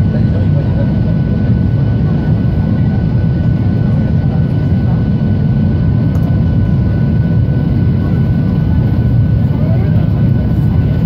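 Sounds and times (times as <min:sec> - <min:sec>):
jet engines and air rumble: 0:00.0 - 0:11.0.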